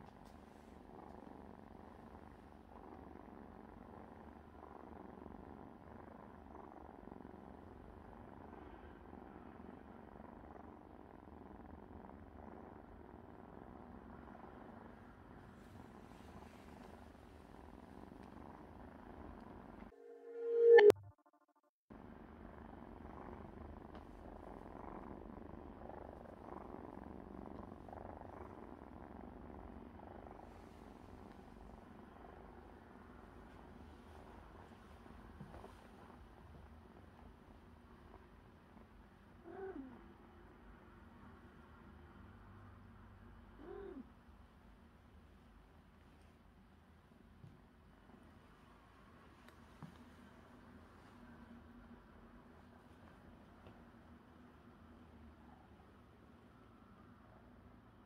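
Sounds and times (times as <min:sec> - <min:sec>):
cat purring: 0:00.0 - 0:20.8, 0:22.0 - 0:58.0.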